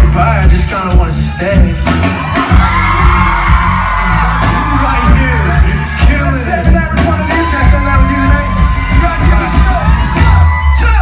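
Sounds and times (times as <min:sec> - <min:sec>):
pounding drum beat: 0:00.0 - 0:11.0
crowd whooping and yelling: 0:01.1 - 0:11.0.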